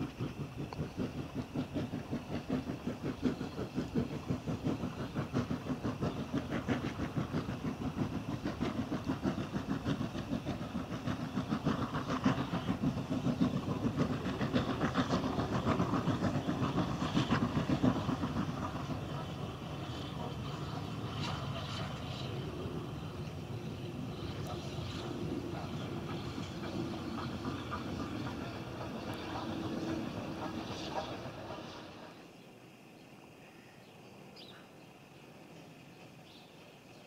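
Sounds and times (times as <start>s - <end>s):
steam locomotive exhaust beating: 0.0s - 32.4s.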